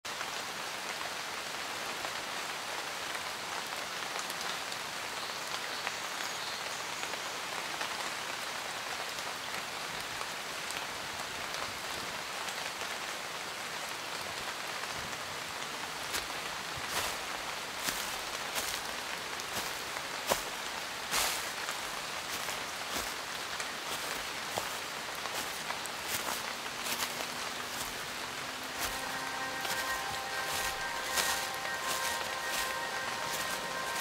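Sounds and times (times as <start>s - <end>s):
steady rain hiss: 0.1s - 34.0s.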